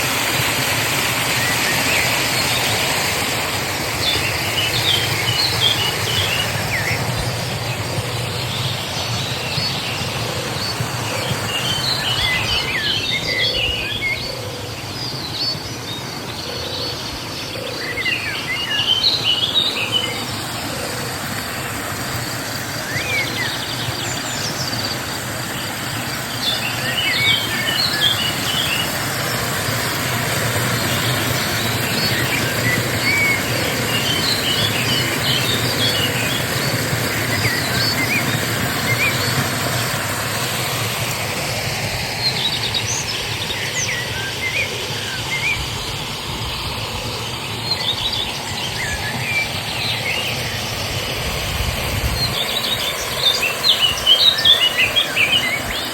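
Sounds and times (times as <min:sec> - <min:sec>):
birds chirping: 0:00.0 - 0:55.9
flowing stream water: 0:00.0 - 0:55.9.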